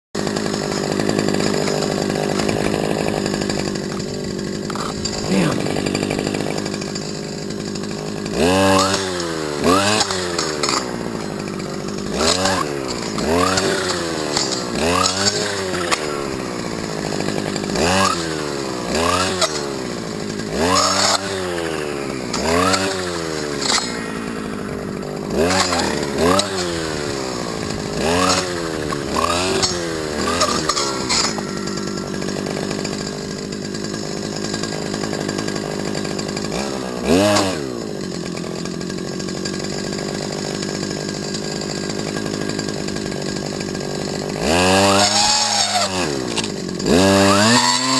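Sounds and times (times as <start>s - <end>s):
brush cutter engine idling: 0.2s - 47.9s
brush cutter engine revving: 0.2s - 47.9s.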